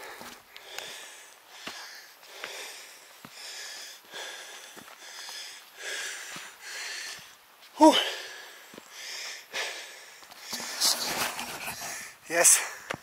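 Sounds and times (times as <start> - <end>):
person breathing hard: 0.0 - 11.0, 11.7 - 13.0.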